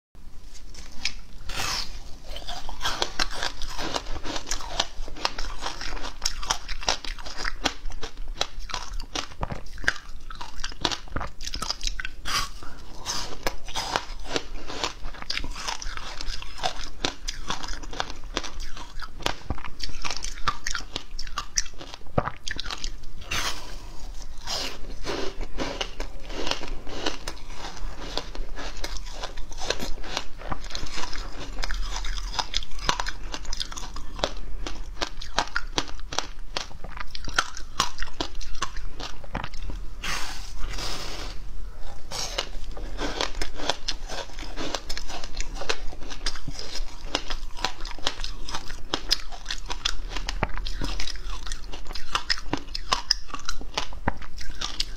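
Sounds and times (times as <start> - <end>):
teeth crunching ice: 1.0 - 23.6, 24.2 - 39.8, 41.9 - 54.9.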